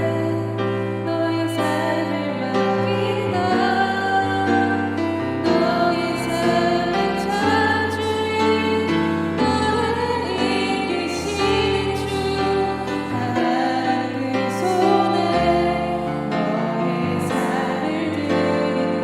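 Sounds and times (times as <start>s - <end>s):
instrumental accompaniment: 0.0s - 19.0s
person singing worship song: 0.0s - 19.0s.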